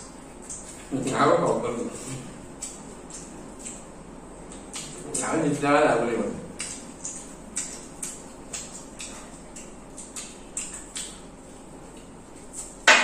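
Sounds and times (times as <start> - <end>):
chewing and mouth clicks: 0.0 - 5.6, 6.3 - 12.8.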